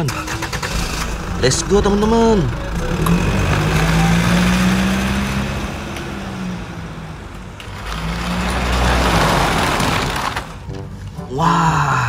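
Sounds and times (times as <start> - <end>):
gritty wheel noise: 0.1 - 10.7.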